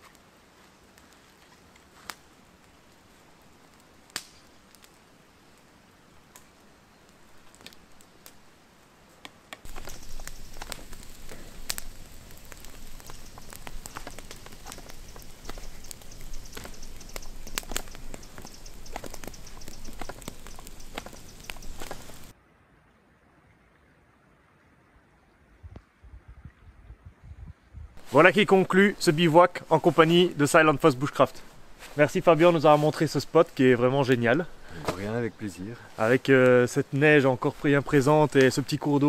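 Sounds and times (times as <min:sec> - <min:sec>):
campfire crackling and popping: 0:00.0 - 0:22.3, 0:28.0 - 0:39.0.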